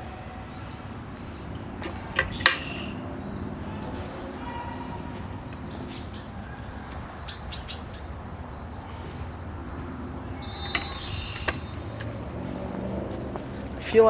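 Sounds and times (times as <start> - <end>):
high bird chirps: 0.0 - 14.0
metal spring clicks and clinks: 1.1 - 7.8, 9.1 - 13.8.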